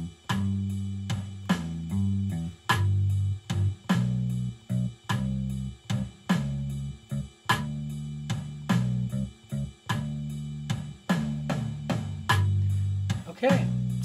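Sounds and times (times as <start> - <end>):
bass line: 0.0 - 14.0
programmed drum beat: 0.0 - 14.0.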